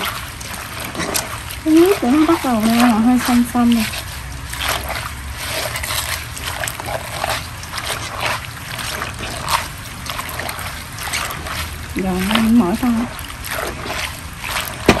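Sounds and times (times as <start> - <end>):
hands squeezing leaves in water: 0.0 - 15.0
water splashing and squelching: 0.0 - 15.0.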